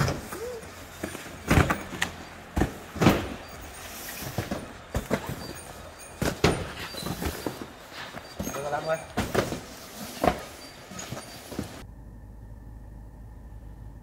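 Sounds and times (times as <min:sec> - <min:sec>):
cardboard cartons thudding: 0:00.0 - 0:11.8.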